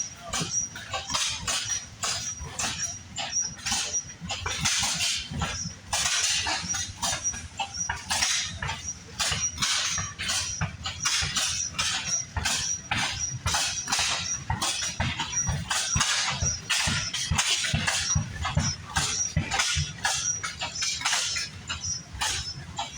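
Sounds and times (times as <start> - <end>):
old engine chuffing and knocking: 0.0 - 22.9.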